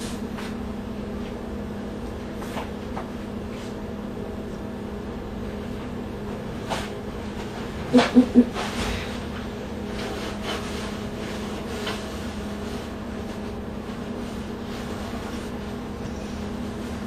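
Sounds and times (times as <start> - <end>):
air conditioner hum: 0.0 - 17.0.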